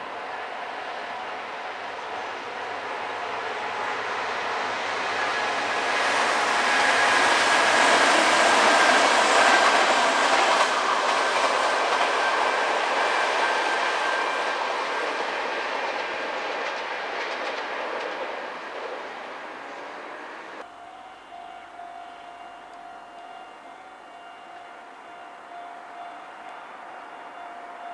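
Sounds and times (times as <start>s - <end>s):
electric train passing: 0.0s - 27.9s.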